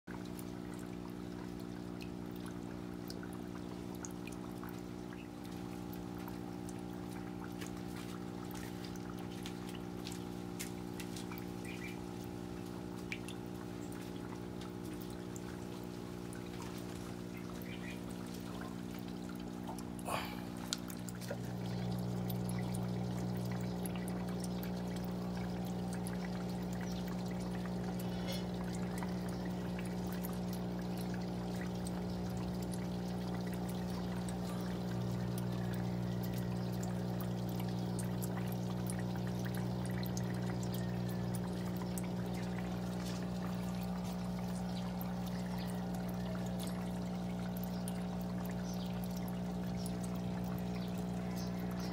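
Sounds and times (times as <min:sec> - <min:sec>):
steady low hum: 0:00.1 - 0:51.9.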